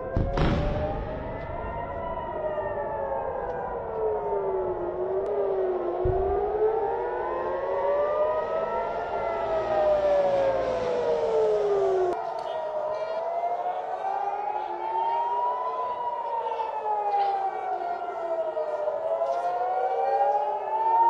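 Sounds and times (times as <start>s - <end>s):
warning sirens wailing: 0.0s - 21.0s.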